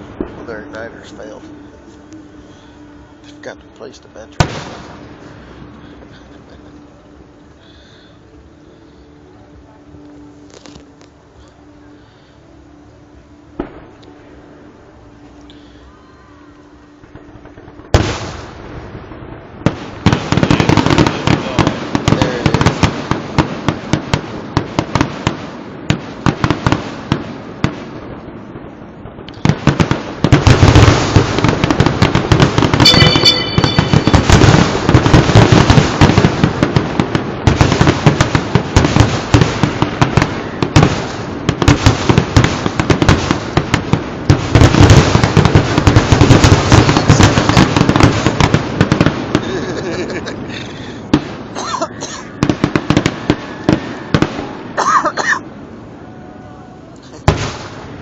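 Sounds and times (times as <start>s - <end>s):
fireworks bangs and crackles: 0.0s - 11.9s, 13.4s - 14.7s, 15.5s - 56.4s, 57.0s - 58.0s.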